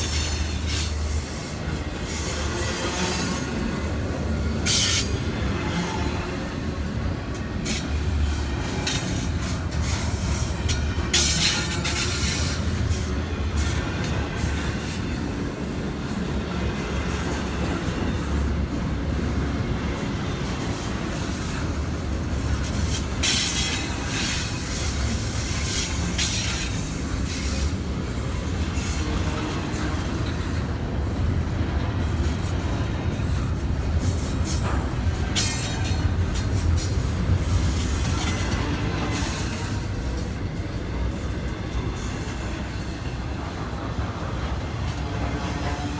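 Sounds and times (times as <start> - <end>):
freight train rumbling on rails: 0.0 - 45.9.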